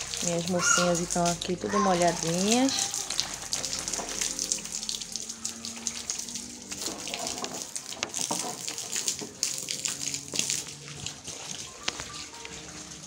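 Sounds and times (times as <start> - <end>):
garden hose spraying water: 0.0 - 13.0
small water splashes: 0.0 - 13.0.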